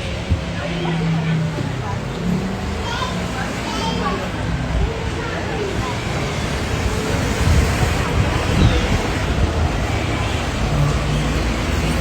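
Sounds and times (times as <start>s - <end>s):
airport background rumble: 0.0s - 12.0s.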